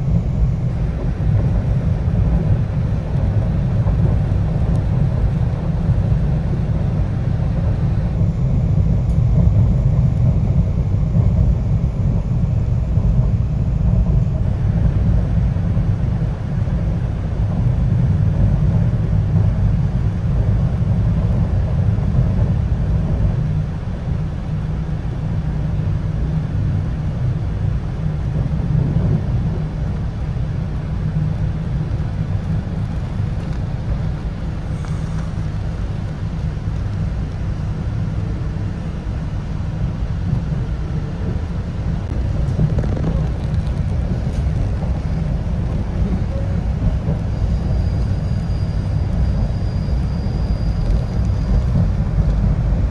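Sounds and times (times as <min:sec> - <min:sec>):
train rumbling on track: 0:00.0 - 0:52.9.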